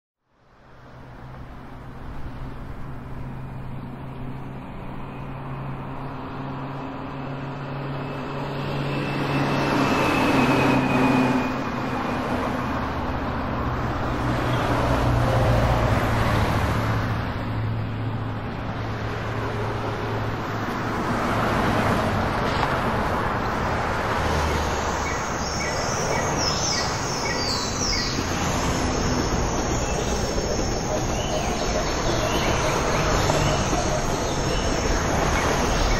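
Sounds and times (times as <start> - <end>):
passing vehicles: 0.3 - 35.9.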